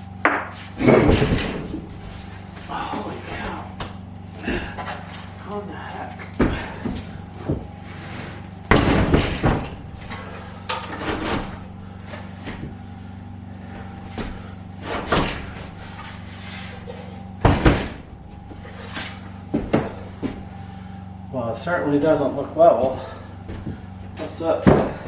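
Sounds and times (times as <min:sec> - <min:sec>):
knocks and thumps of heavy unit: 0:00.0 - 0:20.8, 0:22.1 - 0:25.0
steady low hum: 0:00.0 - 0:25.0.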